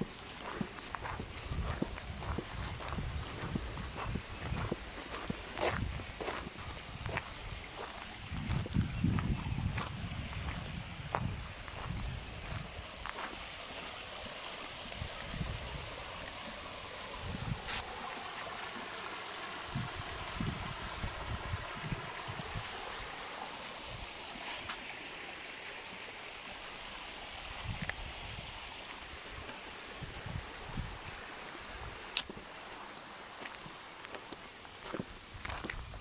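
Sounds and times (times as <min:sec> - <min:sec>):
water rushing: 0:00.0 - 0:35.1.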